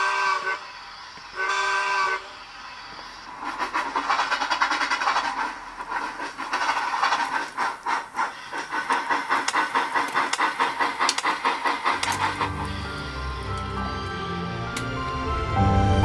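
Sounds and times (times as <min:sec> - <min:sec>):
steam locomotive exhaust chuffs: 0:00.0 - 0:15.6.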